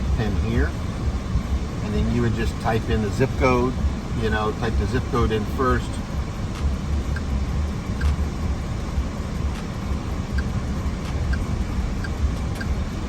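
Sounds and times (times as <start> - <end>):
loud uneven low rumble: 0.0 - 13.0.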